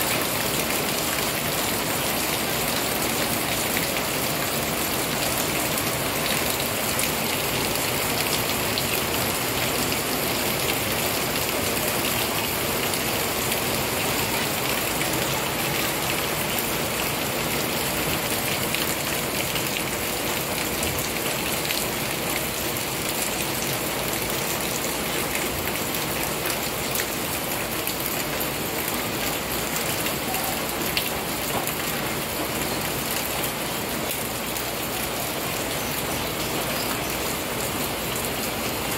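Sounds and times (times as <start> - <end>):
heavy rain splashing on water: 0.0 - 38.9.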